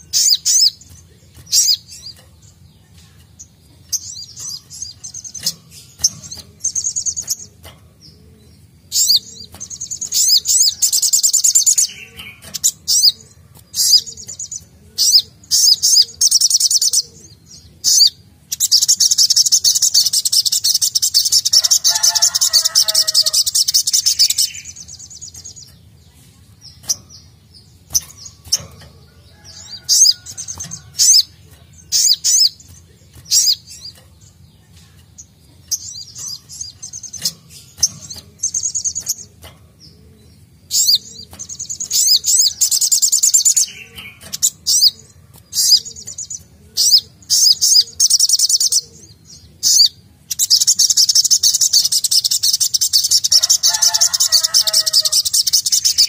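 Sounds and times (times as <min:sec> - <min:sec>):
sunbird chirping and trilling: 0:00.0 - 0:56.0.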